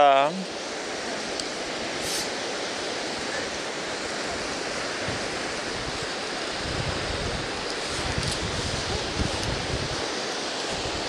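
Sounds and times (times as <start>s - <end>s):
waves washing onto beach: 0.0s - 11.0s
wind rumbling on microphone: 0.4s - 11.0s.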